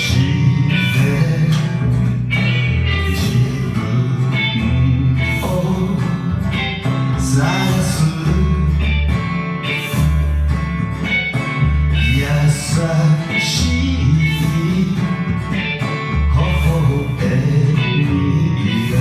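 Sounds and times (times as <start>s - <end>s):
guitar: 0.0s - 19.0s
low bass notes: 0.0s - 19.0s.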